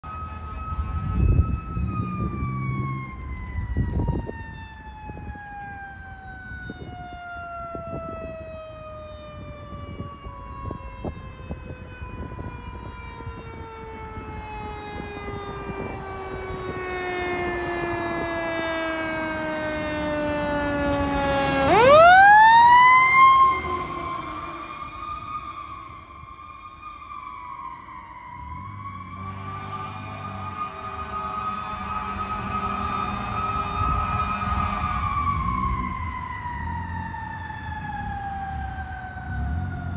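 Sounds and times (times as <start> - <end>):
mechanical siren wailing: 0.0 - 39.9.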